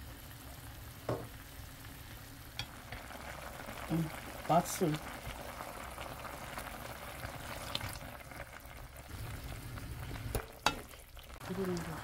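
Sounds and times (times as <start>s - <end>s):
liquid bubbling and sizzling in a pan: 0.0s - 12.0s.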